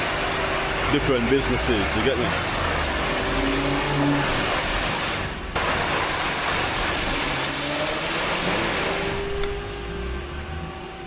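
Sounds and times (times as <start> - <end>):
pressure washer spraying water: 0.0 - 9.6.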